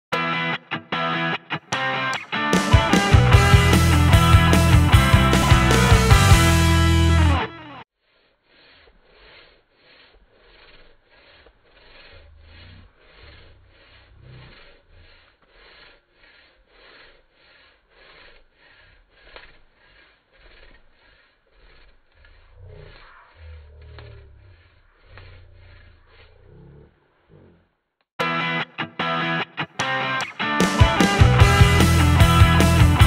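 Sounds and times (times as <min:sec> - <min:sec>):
pruning saw cutting wood: 0:01.5 - 0:07.8, 0:08.5 - 0:26.8, 0:29.7 - 0:33.0.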